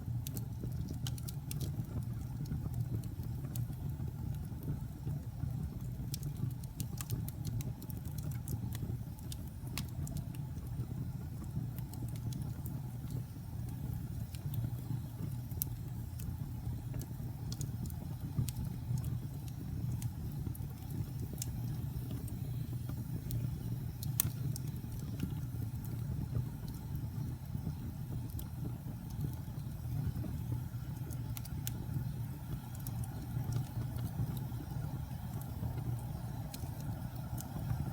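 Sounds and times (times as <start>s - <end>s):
burning wood crackles and pops: 0.0s - 37.9s
campfire flame rumble: 0.0s - 37.9s.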